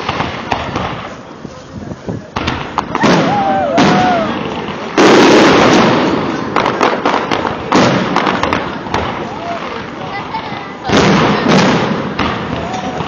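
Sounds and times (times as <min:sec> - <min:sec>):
firework shells booming: 0:00.0 - 0:01.4, 0:02.3 - 0:13.0
firework crackles: 0:00.0 - 0:13.0.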